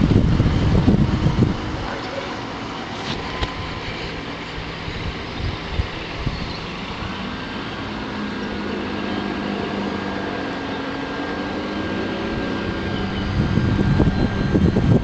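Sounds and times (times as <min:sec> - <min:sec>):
distant fast boats: 0:00.0 - 0:15.0
outboard motor running at low speed: 0:00.0 - 0:15.0.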